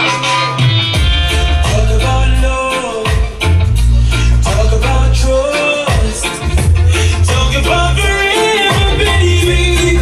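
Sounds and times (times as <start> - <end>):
loud music with singing and heavy bass: 0.0 - 10.0.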